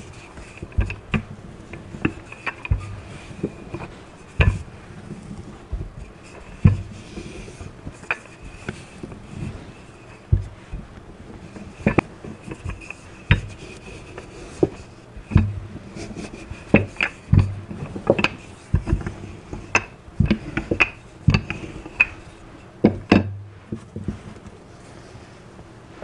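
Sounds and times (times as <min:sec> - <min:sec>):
rolling pin knocking and thumping: 0:00.0 - 0:24.5.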